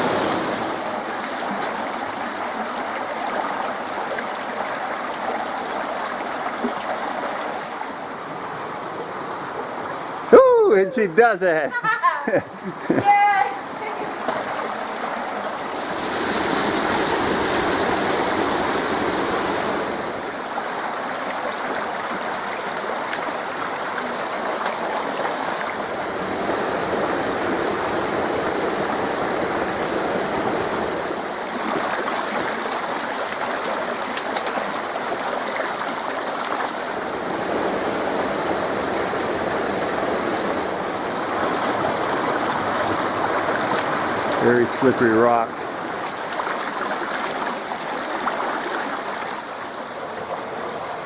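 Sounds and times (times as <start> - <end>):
creek water rushing over rocks: 0.0 - 51.0.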